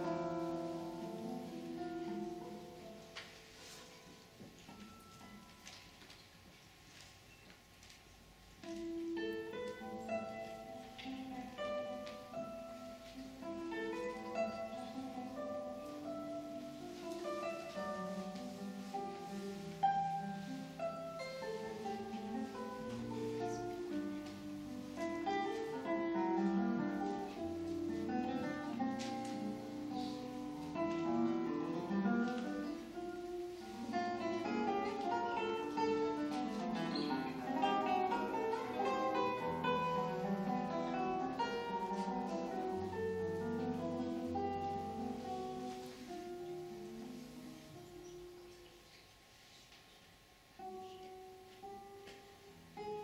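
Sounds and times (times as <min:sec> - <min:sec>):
fingerstyle classical guitar: 0:00.0 - 0:53.0.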